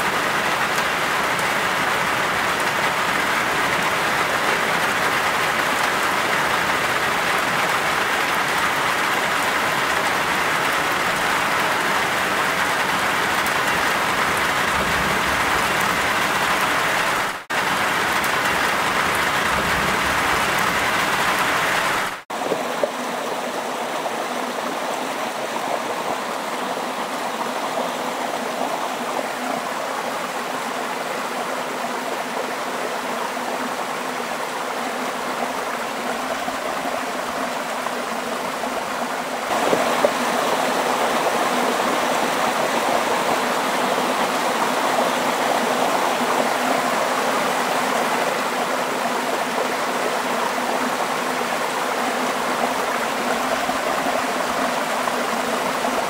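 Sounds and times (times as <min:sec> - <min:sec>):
water cascading over rocks: 0:00.0 - 0:56.0.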